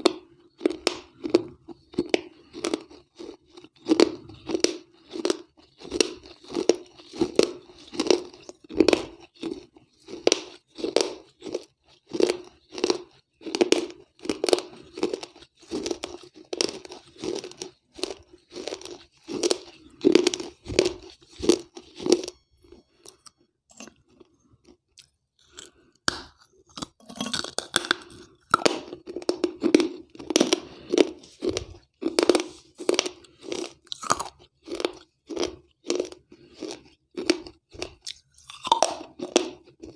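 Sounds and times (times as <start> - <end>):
crunchy chewing of wet clay: 0.0 - 39.9.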